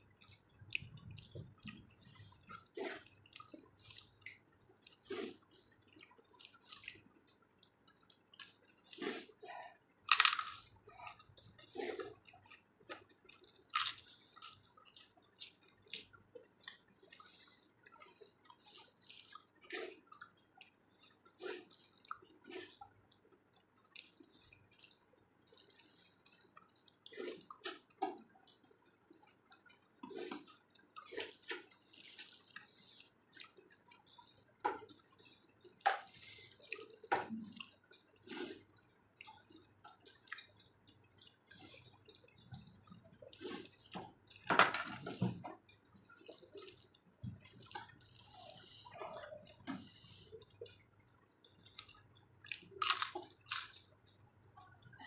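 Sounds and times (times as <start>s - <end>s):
wet chewing and mouth clicks: 0.0s - 55.0s.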